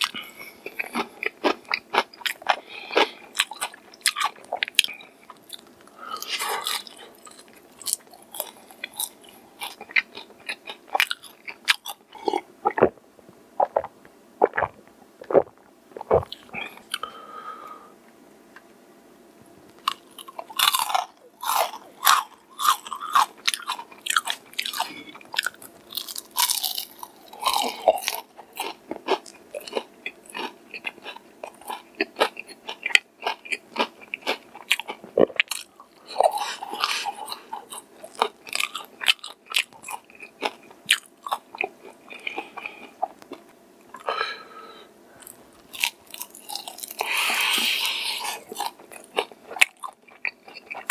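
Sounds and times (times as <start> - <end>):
crunchy chewing of fried chicken: 0.0 - 12.9, 19.8 - 44.5, 45.2 - 50.9.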